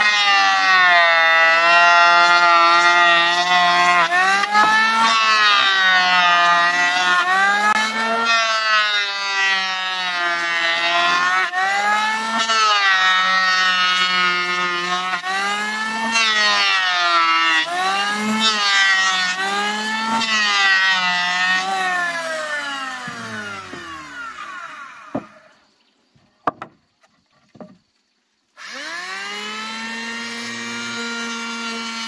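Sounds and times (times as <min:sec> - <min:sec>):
electric hand planer shaving wood: 0:00.0 - 0:25.6, 0:28.6 - 0:32.0.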